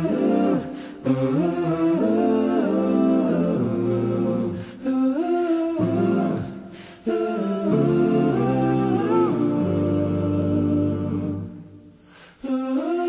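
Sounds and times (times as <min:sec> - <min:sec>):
vocal group humming in harmony: 0:00.0 - 0:13.0.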